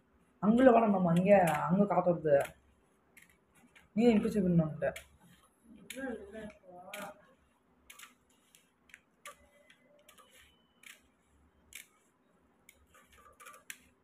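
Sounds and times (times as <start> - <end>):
scissors snipping paper: 1.1 - 14.0.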